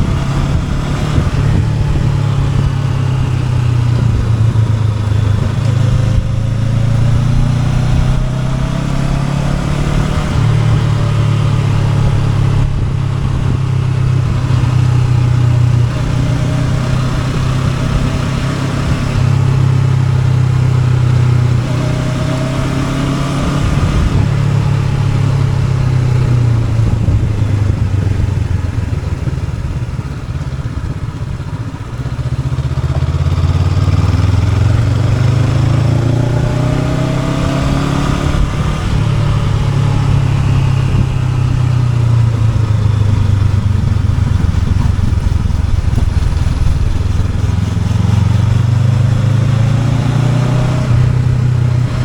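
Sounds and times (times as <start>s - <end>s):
wind rush: 0.0s - 32.3s, 33.2s - 52.0s
motorcycle engine revving: 0.0s - 52.0s.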